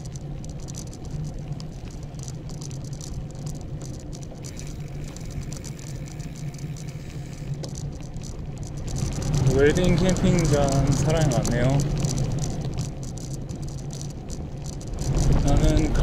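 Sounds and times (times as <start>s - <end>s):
bicycle tyres rumbling: 0.0s - 16.0s
light rattling clicks from bike: 0.0s - 16.0s.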